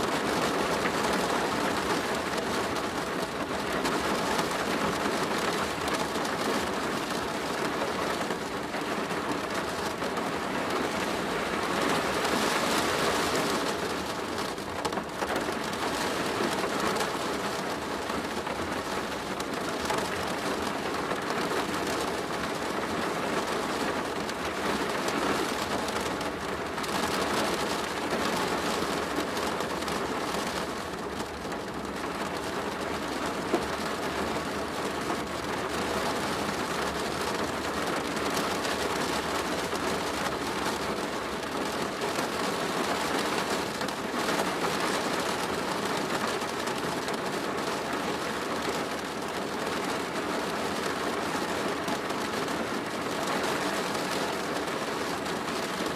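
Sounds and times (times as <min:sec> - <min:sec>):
rain drumming on plastic roof: 0:00.0 - 0:55.9.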